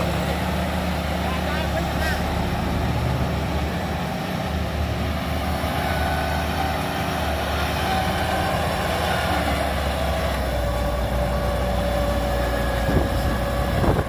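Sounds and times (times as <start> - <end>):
heavy diesel machinery running: 0.0 - 14.0.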